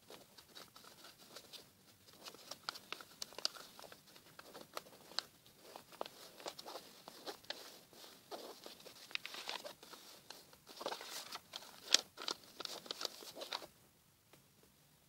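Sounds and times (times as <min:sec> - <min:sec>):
paper being folded and creased: 0:00.0 - 0:13.7.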